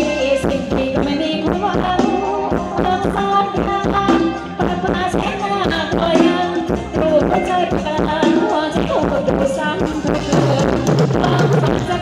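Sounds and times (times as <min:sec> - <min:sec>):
live band dance music: 0:00.0 - 0:12.0.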